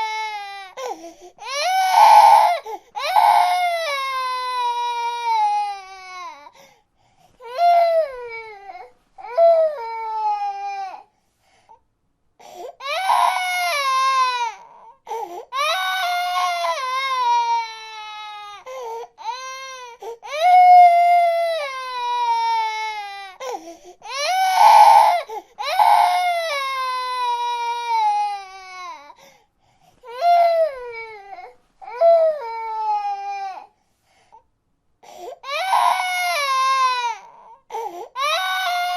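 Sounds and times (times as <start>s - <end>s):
baby crying: 0.0s - 6.5s, 7.4s - 11.1s, 12.7s - 29.2s, 30.0s - 33.7s, 35.0s - 38.9s.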